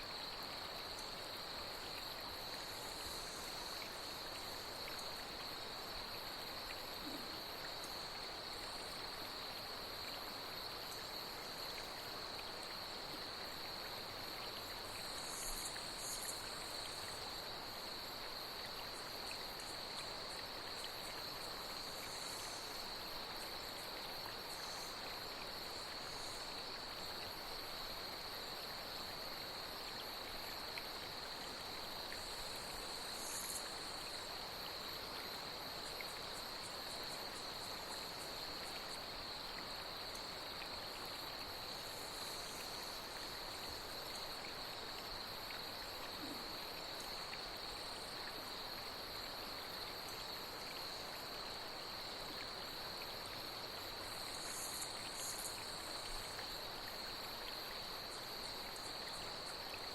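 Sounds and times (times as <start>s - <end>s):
flowing water: 0.0s - 59.9s
night insects trilling: 0.0s - 59.9s.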